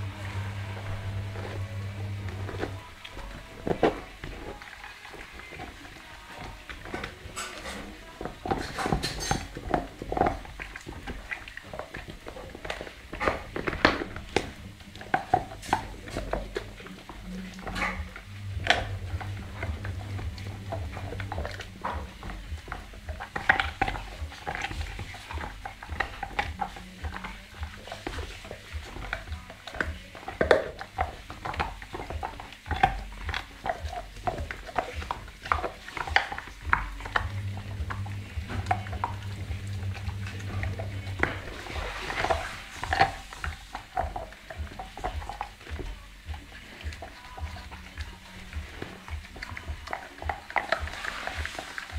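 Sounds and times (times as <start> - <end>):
dog gnawing on a bone: 0.0 - 51.9.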